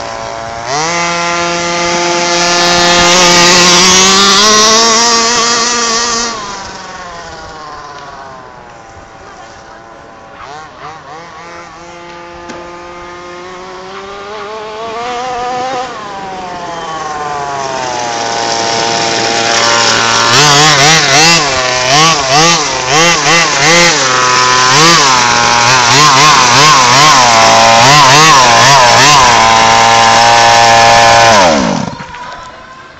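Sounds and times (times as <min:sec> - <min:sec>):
rc car engine revving: 0:00.0 - 0:32.9.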